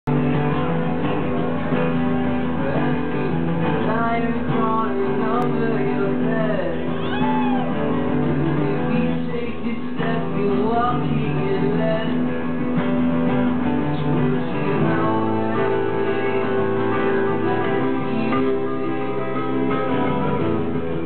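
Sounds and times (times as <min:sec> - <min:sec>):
acoustic guitars strummed and picked: 0:00.1 - 0:21.0.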